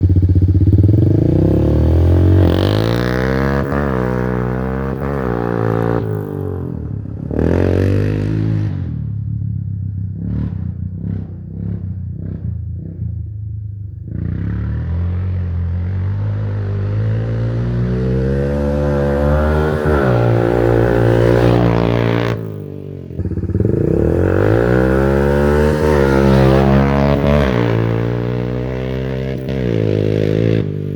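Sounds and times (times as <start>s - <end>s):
atv engine revving: 0.0s - 9.2s, 14.0s - 30.9s.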